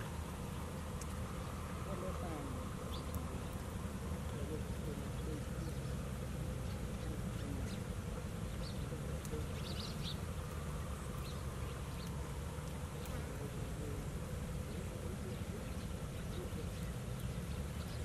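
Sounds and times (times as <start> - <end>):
nestling birds chirping: 0.0 - 18.0.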